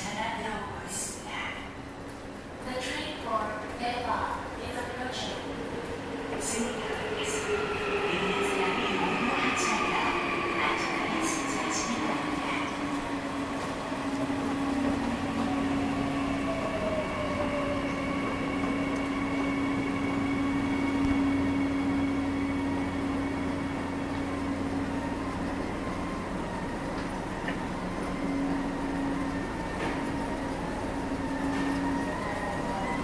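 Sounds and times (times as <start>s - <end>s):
metro train running: 0.0s - 33.0s.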